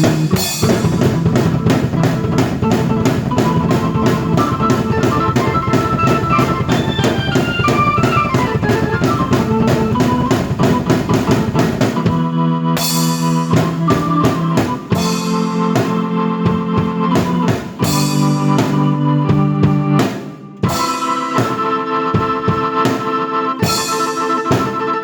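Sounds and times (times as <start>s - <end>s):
drum kit beat: 0.0s - 25.0s
keyboard playing: 0.0s - 25.0s.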